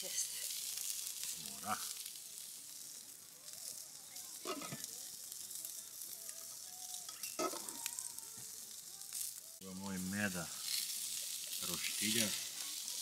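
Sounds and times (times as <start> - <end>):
sausages sizzling on a grill: 0.0 - 13.0.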